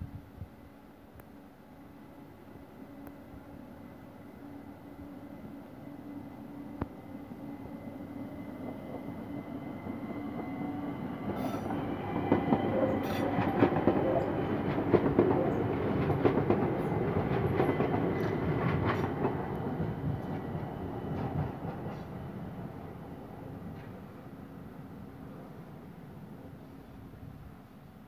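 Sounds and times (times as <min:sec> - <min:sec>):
electric train running past: 0:00.0 - 0:28.0.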